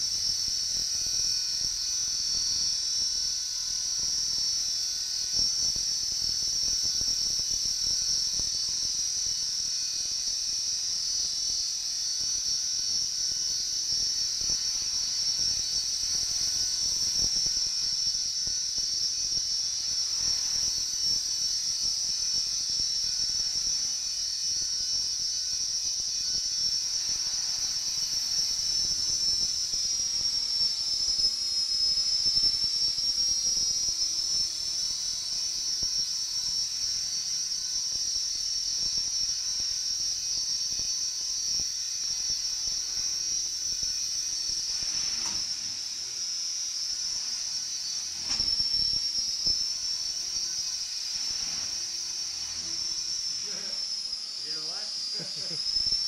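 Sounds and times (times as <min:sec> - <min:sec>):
model helicopter rotor whine: 0:00.0 - 0:56.0.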